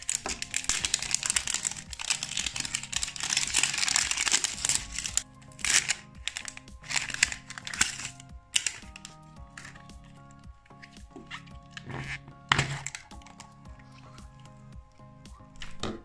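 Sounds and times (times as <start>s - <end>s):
plastic wrapper crinkling: 0.0s - 14.3s
background music: 0.0s - 16.0s.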